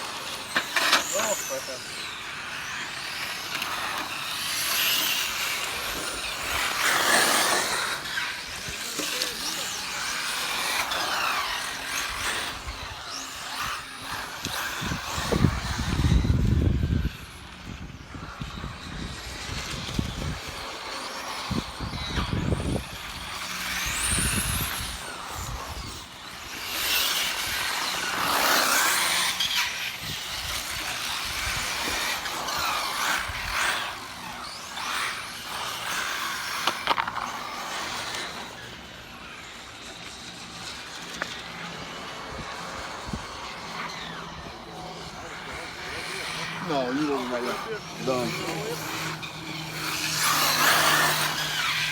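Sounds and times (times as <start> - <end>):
rc cars motors whining: 0.0 - 51.9.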